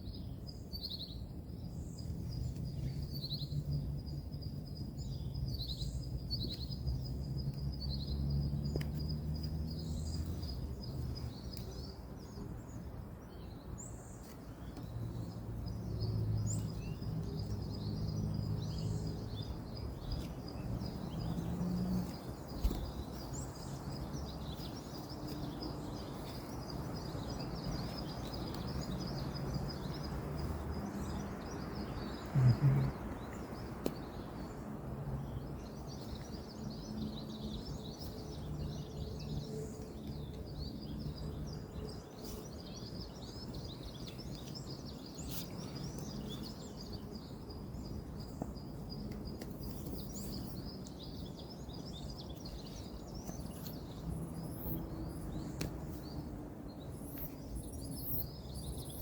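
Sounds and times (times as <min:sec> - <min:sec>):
small birds chirping: 0:00.0 - 0:59.0
distant road traffic rumble: 0:01.2 - 0:59.0.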